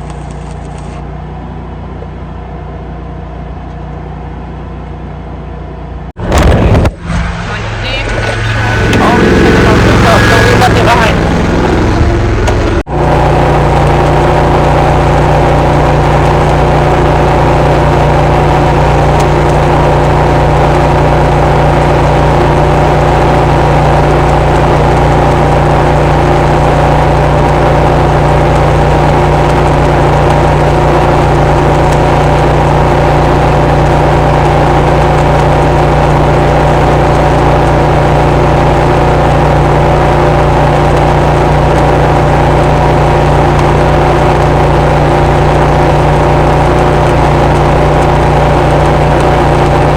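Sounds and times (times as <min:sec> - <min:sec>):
machine drone with hiss: 0:06.2 - 0:49.9.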